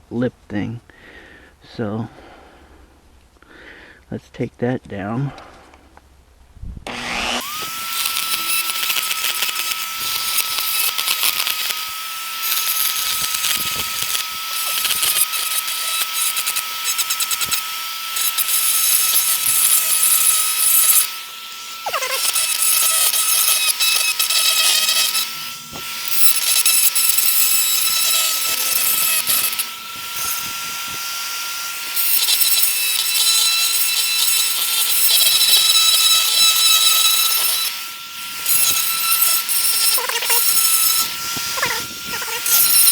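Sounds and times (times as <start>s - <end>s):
rotary tool motor whine: 6.9s - 42.9s
gritty hiss of cutting plastic: 7.4s - 42.9s.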